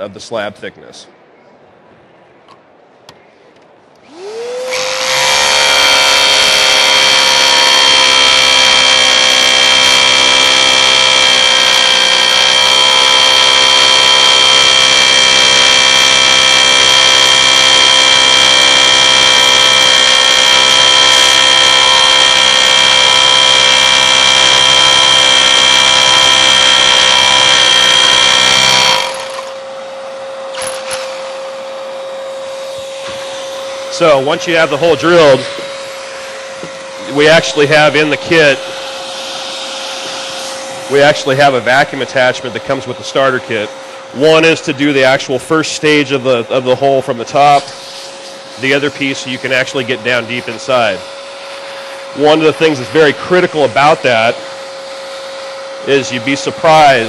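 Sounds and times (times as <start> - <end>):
electric drill boring concrete: 4.0 - 57.0
vacuum cleaner running: 4.0 - 57.0.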